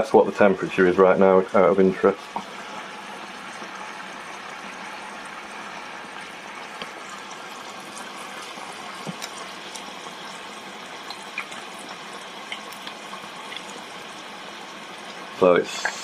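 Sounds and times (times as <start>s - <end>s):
chips deep-frying in oil: 0.8s - 16.0s.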